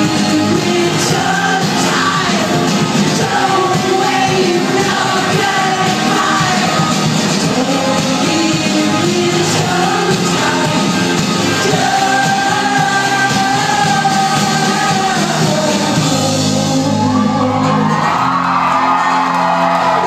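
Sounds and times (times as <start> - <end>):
live rock band playing: 0.0 - 20.0
singer holding long notes: 0.0 - 20.0.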